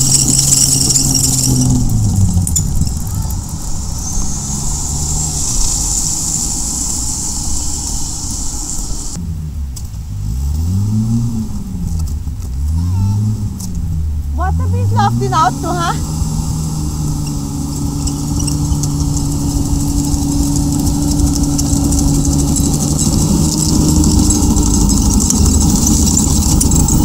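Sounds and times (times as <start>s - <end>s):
tracked vehicle engine revving: 0.0s - 27.0s.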